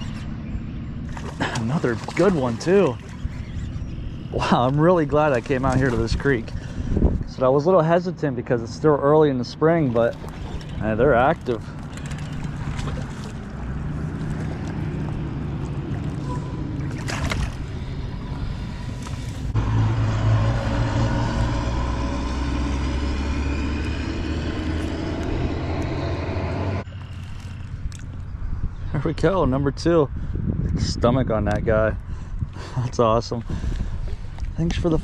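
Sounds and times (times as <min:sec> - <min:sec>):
vehicle engine humming: 0:00.0 - 0:29.2.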